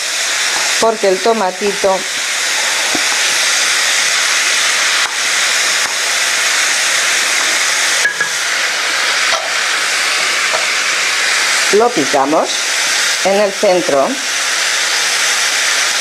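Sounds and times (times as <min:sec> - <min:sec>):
beef and peppers sizzling in oil: 0:00.0 - 0:16.0.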